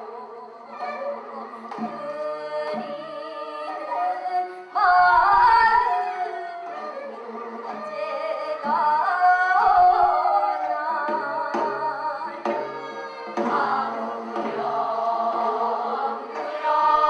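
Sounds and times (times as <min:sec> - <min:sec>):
traditional singing with instruments: 0:00.0 - 0:17.0.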